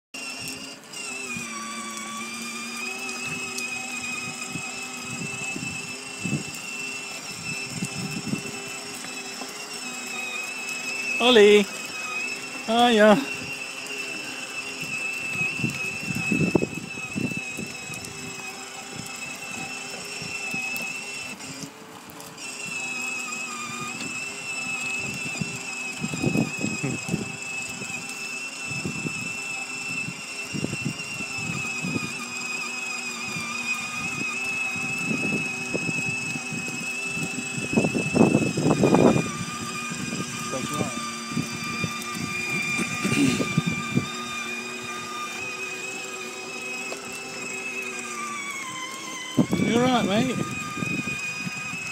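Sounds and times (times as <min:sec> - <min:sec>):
electric motor whining: 0:00.2 - 0:51.9.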